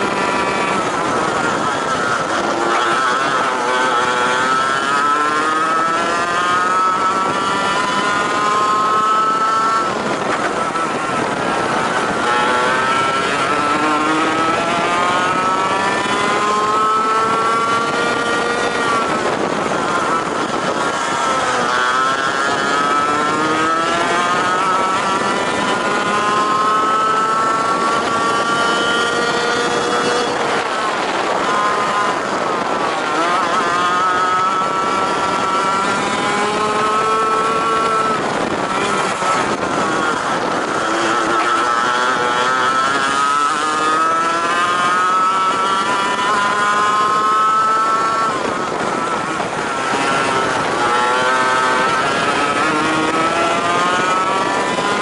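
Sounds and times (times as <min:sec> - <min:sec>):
racing kart engine revving: 0:00.0 - 0:55.0
wind noise: 0:00.0 - 0:55.0.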